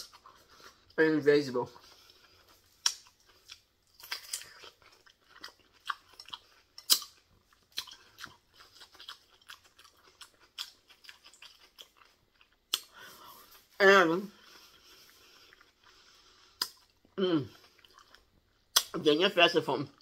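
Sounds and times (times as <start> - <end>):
crunching and chewing cucumber: 0.0 - 1.0, 1.6 - 13.7, 14.4 - 19.0.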